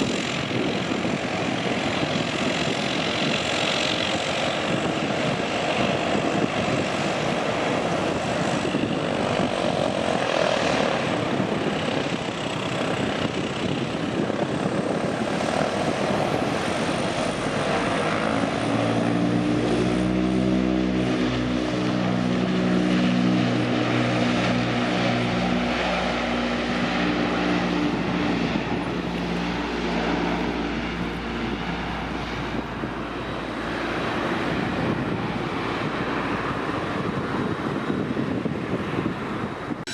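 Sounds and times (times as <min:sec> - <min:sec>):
deep propeller drone: 0:00.0 - 0:39.9
turboprop engines rushing: 0:00.0 - 0:39.9.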